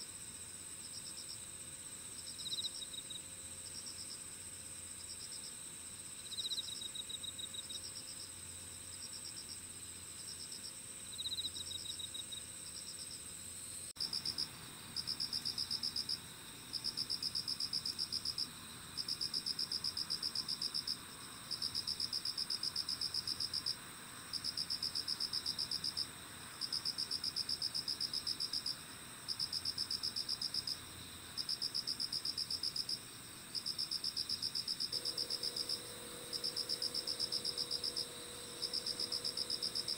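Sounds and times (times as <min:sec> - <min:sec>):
night insects chorus: 0:00.0 - 0:39.9
fast pulsing insect trill: 0:00.1 - 0:39.9.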